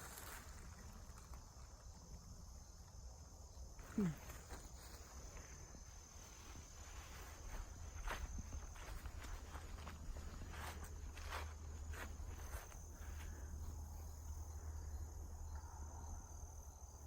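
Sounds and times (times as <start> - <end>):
insects singing: 0.0 - 17.0.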